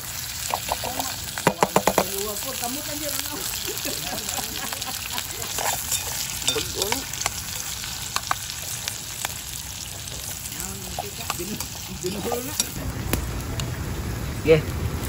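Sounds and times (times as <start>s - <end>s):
burning wood popping and crackling: 0.0s - 13.8s
food sizzling in a pot: 0.0s - 15.0s.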